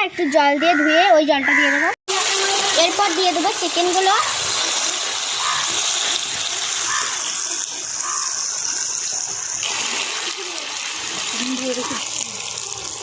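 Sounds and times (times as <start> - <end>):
chicken sizzling in hot oil: 2.1 - 13.0.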